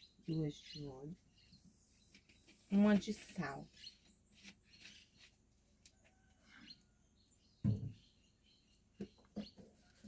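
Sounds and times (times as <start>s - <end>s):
faint bird chirping: 0.0s - 10.0s.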